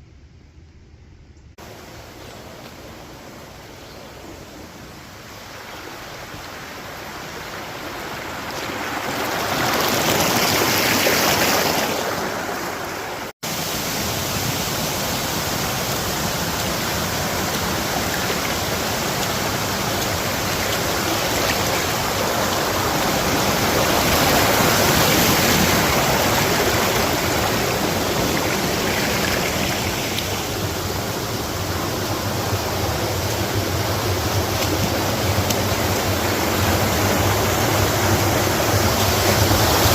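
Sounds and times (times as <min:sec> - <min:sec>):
waterfall rushing: 0:01.6 - 0:39.9.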